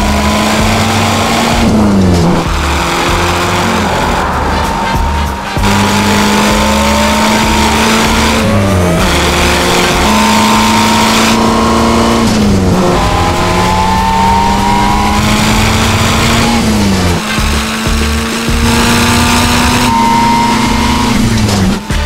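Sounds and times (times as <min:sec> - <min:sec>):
car engine revving through gears: 0:00.0 - 0:22.0.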